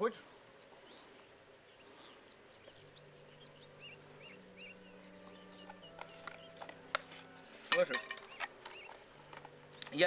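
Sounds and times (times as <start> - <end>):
small birds chirping: 0.0 - 10.0
low sustained tones: 0.4 - 9.8.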